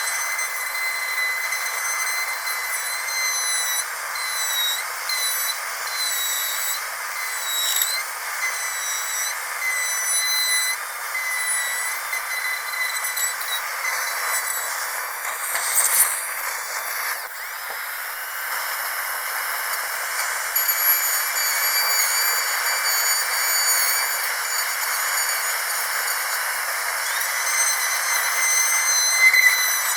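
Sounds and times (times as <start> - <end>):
dentist's drill whining: 0.0 - 29.9.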